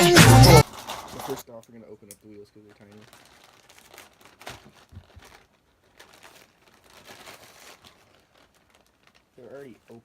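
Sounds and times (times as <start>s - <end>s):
packaging crinkling and rustling: 0.6s - 1.6s, 2.2s - 10.0s.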